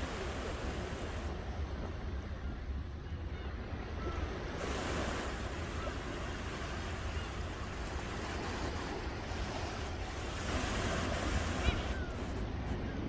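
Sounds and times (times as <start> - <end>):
ocean surf washing ashore: 0.0 - 2.4, 4.0 - 13.0
wind rumble on microphone: 0.0 - 13.0.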